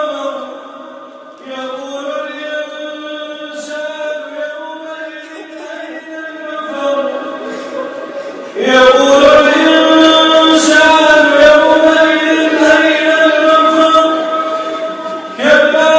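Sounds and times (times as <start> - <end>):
man chanting melodically: 0.0 - 15.9.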